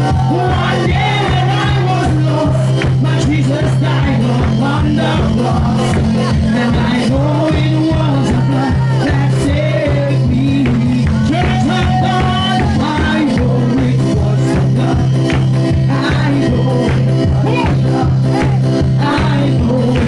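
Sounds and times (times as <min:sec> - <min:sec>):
drums and bass: 0:00.0 - 0:20.0
live worship music: 0:00.0 - 0:20.0
person singing melody: 0:00.0 - 0:20.0.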